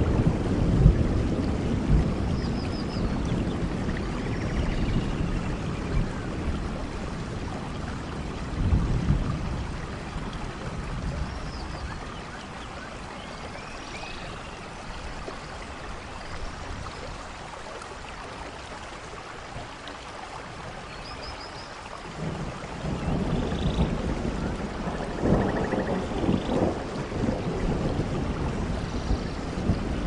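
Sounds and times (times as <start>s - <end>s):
low rumble of thunder: 0.0s - 17.2s, 22.1s - 30.0s
rushing water: 0.0s - 30.0s
steady rain: 0.0s - 30.0s.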